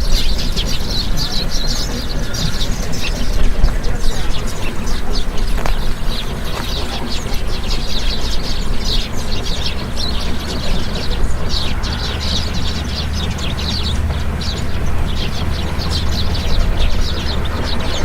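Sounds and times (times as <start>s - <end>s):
small birds chirping: 0.0s - 18.0s
steady low rumble: 0.0s - 18.0s.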